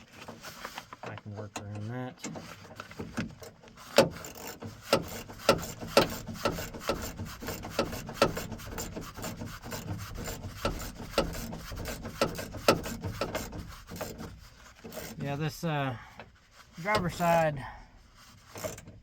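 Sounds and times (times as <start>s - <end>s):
rubbing and scraping: 0.0s - 19.0s.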